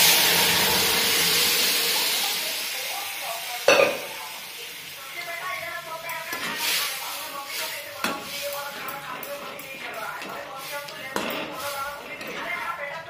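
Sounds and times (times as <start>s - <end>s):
faint sizzle of cooking: 0.0s - 13.0s.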